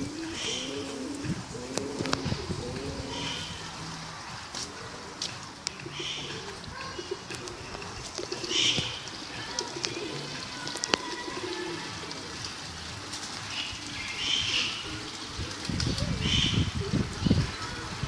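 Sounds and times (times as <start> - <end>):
low bird calls: 0.0 - 17.8.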